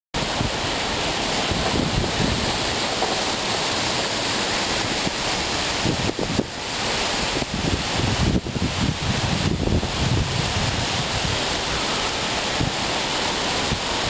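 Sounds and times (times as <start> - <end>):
strong wind on microphone: 0.2 - 14.0.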